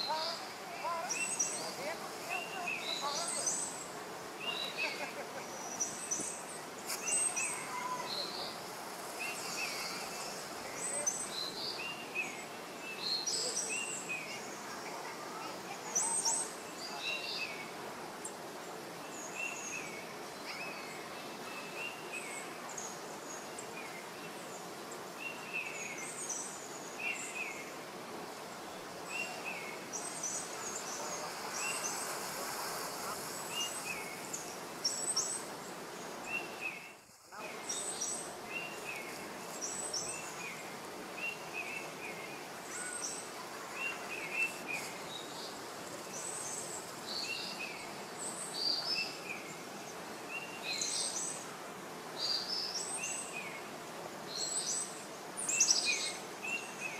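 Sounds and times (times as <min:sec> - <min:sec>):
steady forest hiss: 0:00.0 - 0:56.9.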